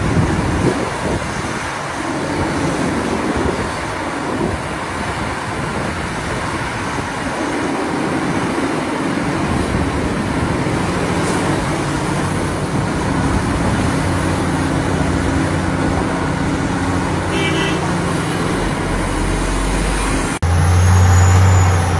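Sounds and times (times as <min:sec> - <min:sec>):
heavy machinery engines running: 0:00.0 - 0:21.9
low engine hum: 0:00.0 - 0:21.9.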